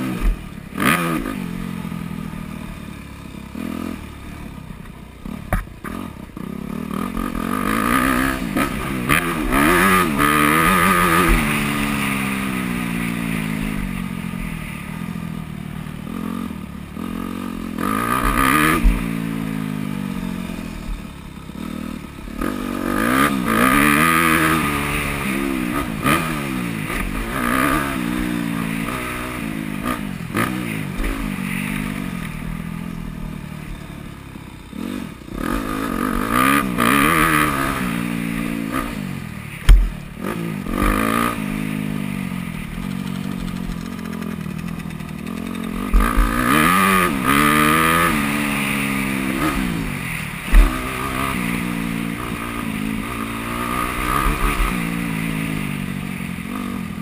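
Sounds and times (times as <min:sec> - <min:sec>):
motorcycle engine revving: 0:00.0 - 0:57.0
motorcycle rattles: 0:00.0 - 0:57.0.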